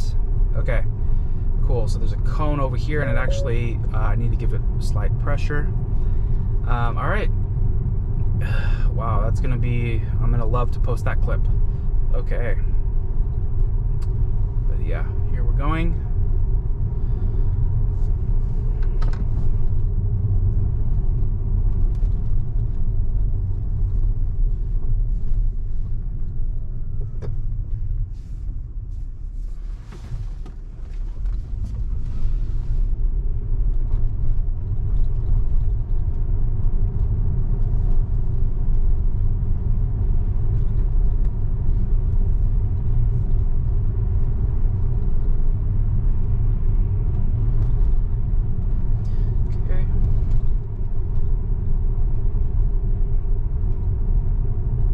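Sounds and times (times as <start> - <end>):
road and tyre rumble in car cabin: 0.0 - 54.9.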